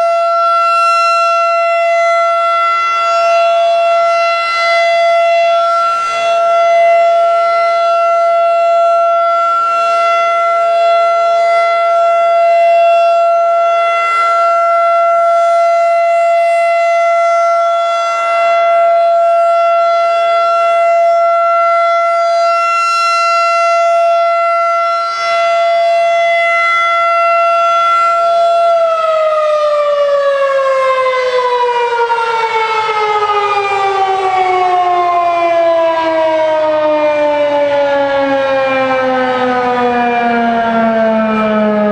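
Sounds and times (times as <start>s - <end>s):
warning siren alert tone: 0.0s - 41.9s.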